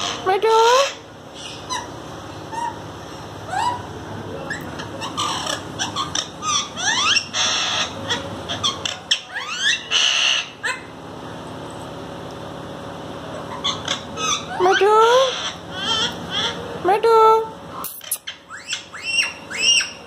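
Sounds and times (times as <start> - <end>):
parakeets squawking and screeching: 0.0 - 11.0, 13.4 - 16.8, 17.8 - 20.0.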